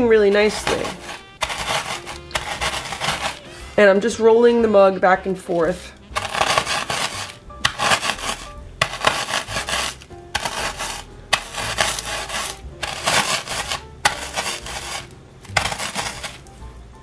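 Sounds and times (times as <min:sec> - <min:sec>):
mug crushing cookies in plastic bag: 0:00.3 - 0:03.6, 0:06.1 - 0:16.5.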